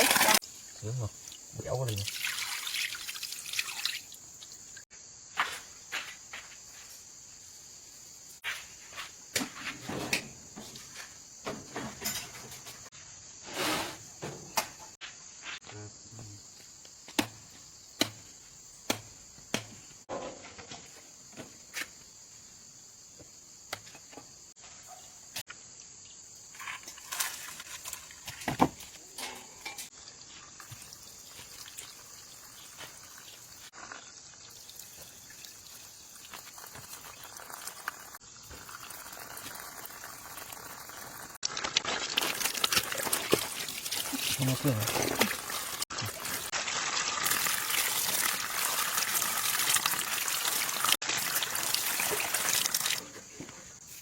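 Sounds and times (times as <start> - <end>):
crickets and insects chirring: 0.0 - 54.0.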